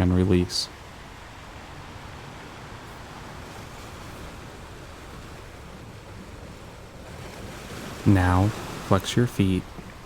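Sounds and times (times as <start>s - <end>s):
ocean waves washing on beach: 0.0s - 10.0s.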